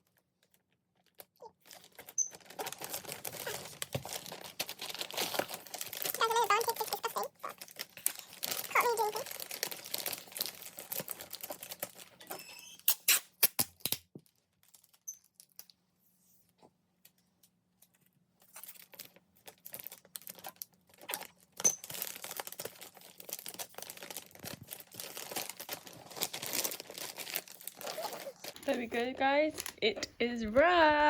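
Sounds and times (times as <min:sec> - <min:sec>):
wrapping paper rustling and crinkling: 0:00.0 - 0:12.4, 0:14.2 - 0:15.5, 0:18.4 - 0:31.0.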